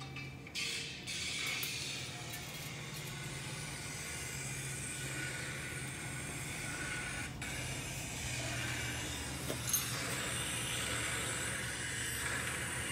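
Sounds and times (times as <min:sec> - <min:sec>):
engine running: 0:02.2 - 0:12.9.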